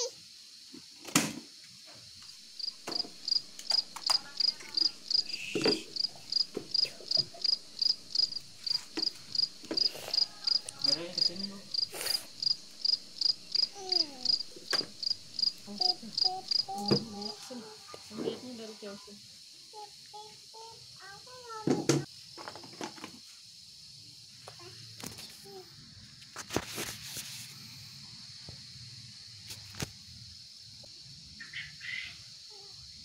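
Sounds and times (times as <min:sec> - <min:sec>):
insect chirping: 0:00.0 - 0:33.0.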